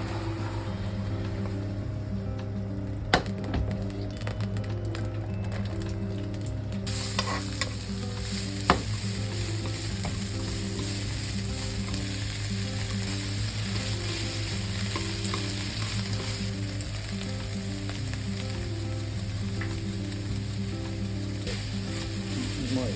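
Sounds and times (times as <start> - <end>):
food sizzling in a pan: 0.0 - 22.9.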